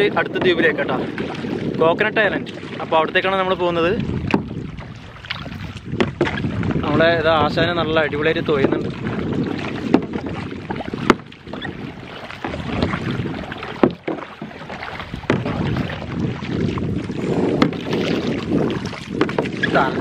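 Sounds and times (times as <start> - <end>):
kayak paddle splashing in water: 0.0 - 20.0
wind buffeting microphone: 0.0 - 20.0.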